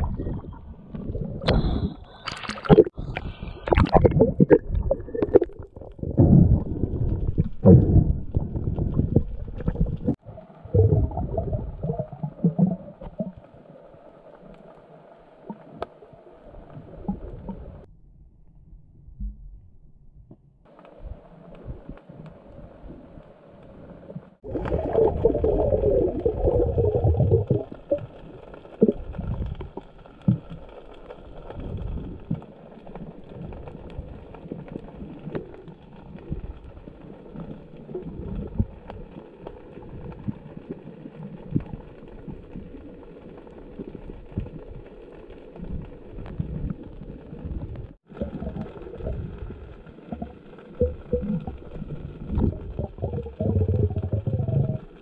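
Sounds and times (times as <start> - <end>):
muffled underwater rumbling: 0.0 - 55.0.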